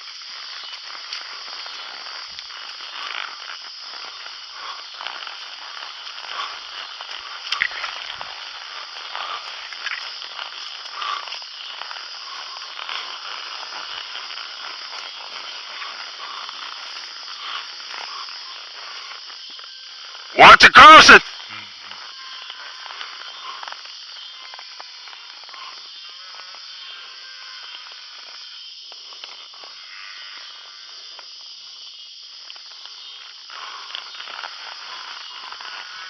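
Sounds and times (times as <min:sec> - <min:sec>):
high-pitched insect droning: 0:00.0 - 0:36.0.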